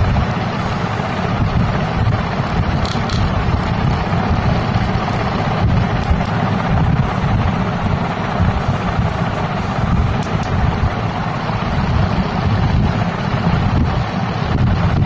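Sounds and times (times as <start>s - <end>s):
airflow rushing on microphone: 0.0s - 15.0s
small motor spinning fan blades: 0.0s - 15.0s.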